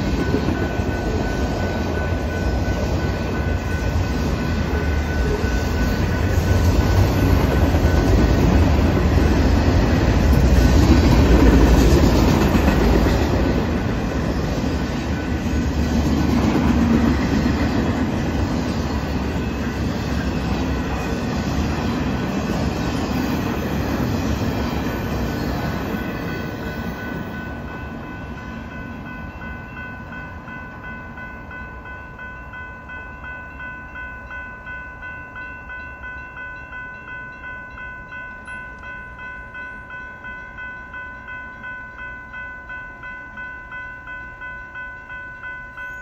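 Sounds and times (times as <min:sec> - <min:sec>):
freight train cars rumbling past: 0:00.0 - 0:46.0.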